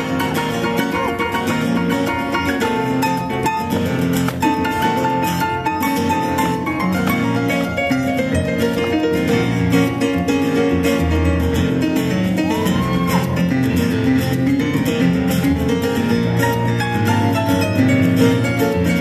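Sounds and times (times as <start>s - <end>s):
acoustic guitar: 0.0s - 19.0s.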